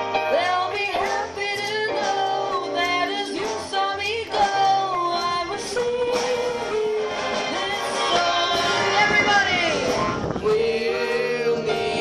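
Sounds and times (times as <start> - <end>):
big band playing: 0.0 - 12.0
person singing: 0.3 - 12.0.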